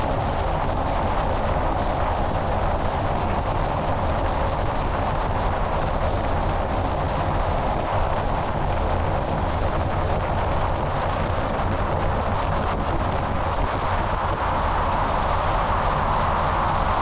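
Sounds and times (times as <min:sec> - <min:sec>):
road and tyre rumble: 0:00.0 - 0:17.0
wind buffeting microphone: 0:00.0 - 0:17.0.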